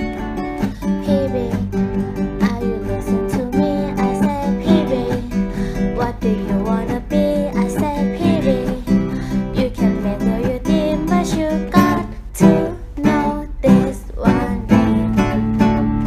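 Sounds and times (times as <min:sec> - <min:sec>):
person singing: 0:00.0 - 0:16.0
strummed acoustic guitar: 0:00.0 - 0:16.0.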